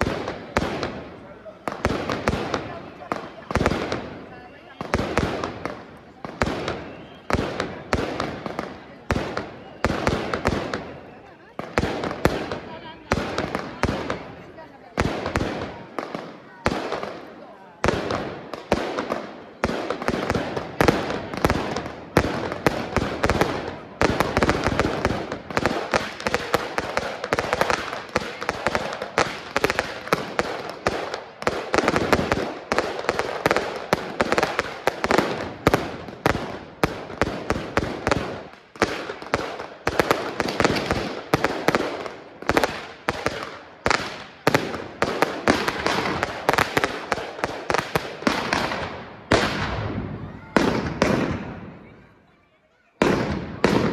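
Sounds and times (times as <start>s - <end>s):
fireworks barrage: 0.0s - 53.9s.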